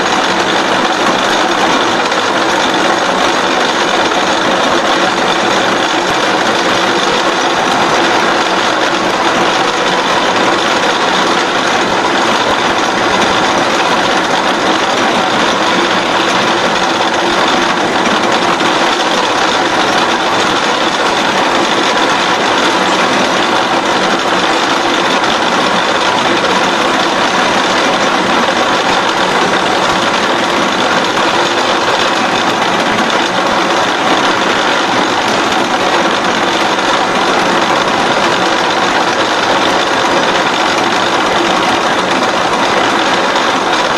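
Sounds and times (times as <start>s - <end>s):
constant machine hum: 0.0s - 43.9s.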